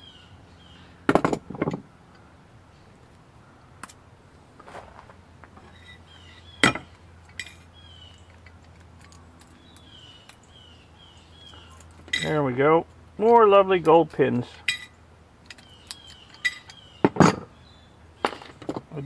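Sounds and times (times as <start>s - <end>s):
birds chirping: 0.0s - 3.9s, 4.8s - 19.0s.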